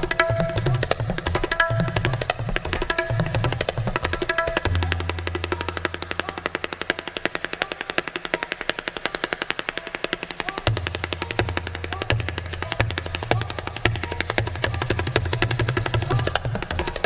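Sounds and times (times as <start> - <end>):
fast tabla strokes: 0.0 - 17.0.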